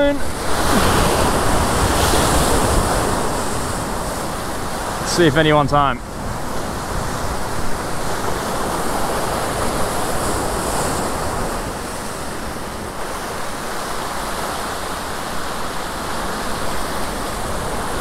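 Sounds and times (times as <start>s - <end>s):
ocean surf breaking over rocks: 0.0s - 18.0s.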